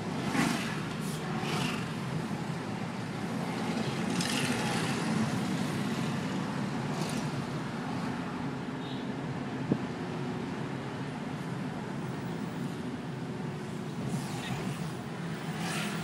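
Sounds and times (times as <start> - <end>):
car engine and tyre hum: 0.0 - 16.0.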